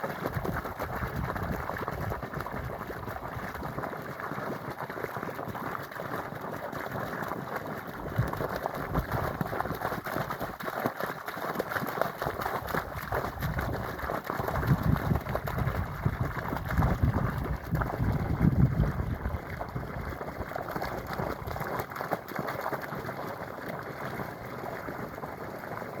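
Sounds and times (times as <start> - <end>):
water flowing and gurgling: 0.0 - 26.0.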